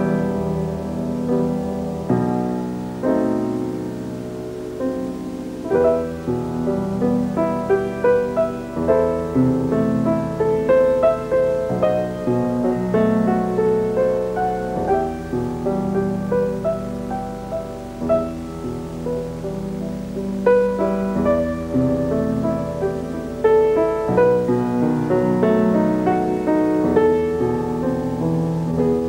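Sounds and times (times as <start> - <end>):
solo piano: 0.0 - 29.0.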